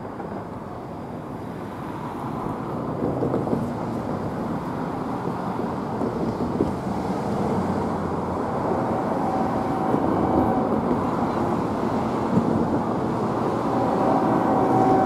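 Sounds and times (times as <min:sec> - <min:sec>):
distant freight train rumble: 0:00.0 - 0:15.0.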